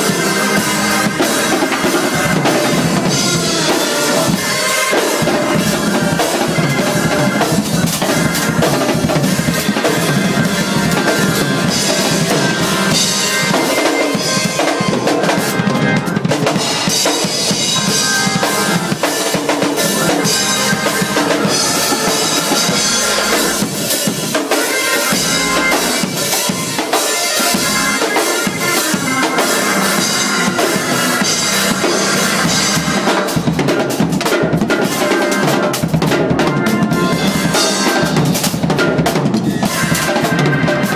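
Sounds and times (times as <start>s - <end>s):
two drum kits playing: 0.0s - 40.9s.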